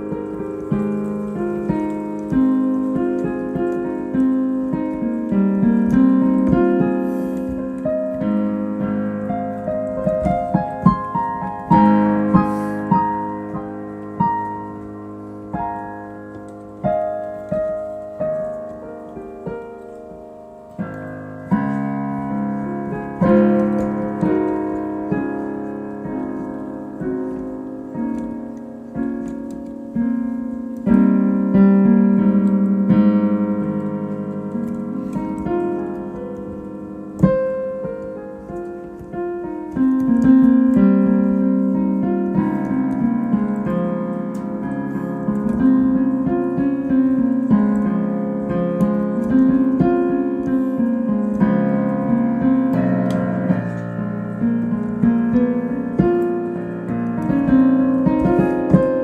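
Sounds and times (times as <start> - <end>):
solo piano chords: 0.0 - 59.0.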